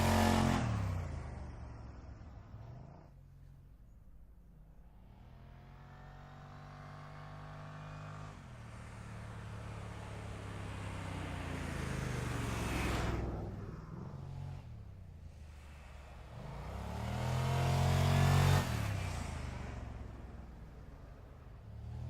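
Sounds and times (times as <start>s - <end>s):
car engine accelerating: 0.0s - 3.2s, 5.0s - 22.0s.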